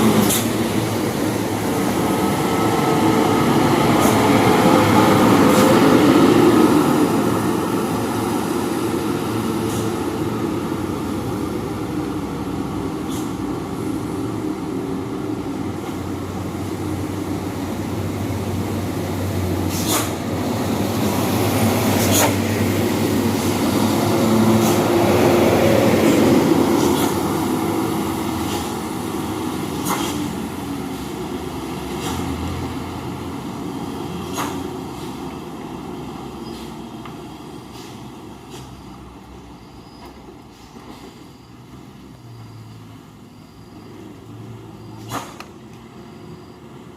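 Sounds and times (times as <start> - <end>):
diesel truck driving past: 0.0 - 46.9.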